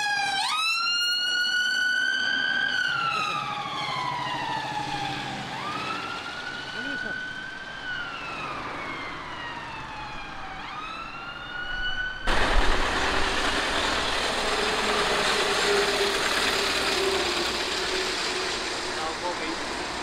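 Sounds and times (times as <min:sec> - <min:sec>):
distant siren wailing: 0:00.0 - 0:20.0.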